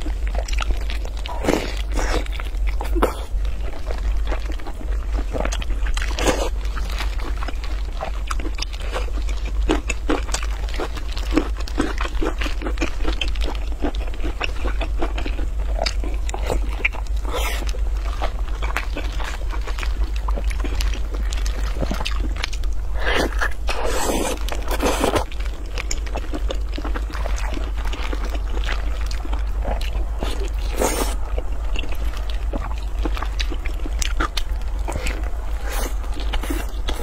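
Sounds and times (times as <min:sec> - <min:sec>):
low hum: 0:00.0 - 0:37.0
wet chewing and lip smacks: 0:01.8 - 0:37.0.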